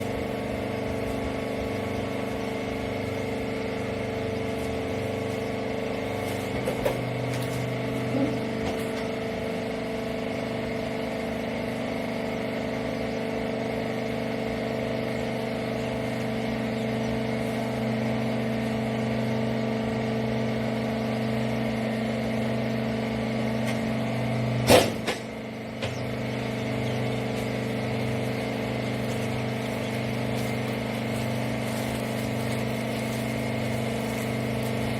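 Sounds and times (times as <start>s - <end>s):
hydraulic motor and pump humming: 0.0s - 34.9s.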